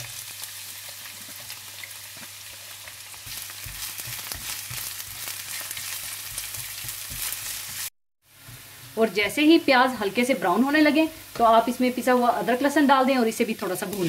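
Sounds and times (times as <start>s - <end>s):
onion sizzling in hot oil: 0.0s - 14.0s.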